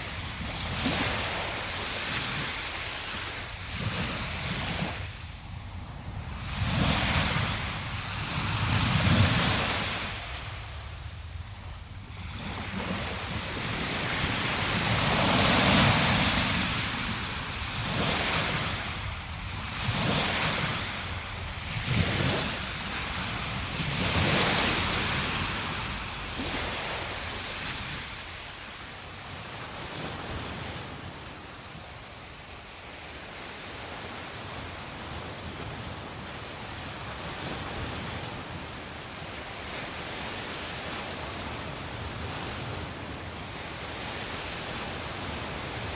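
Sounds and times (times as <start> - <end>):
small waves washing on sand: 0.0 - 45.9.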